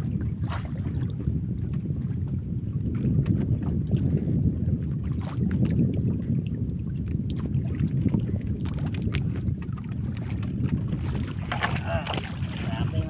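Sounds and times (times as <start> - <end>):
water splashing against hull: 0.0 - 13.0
wind buffeting microphone: 0.0 - 13.0.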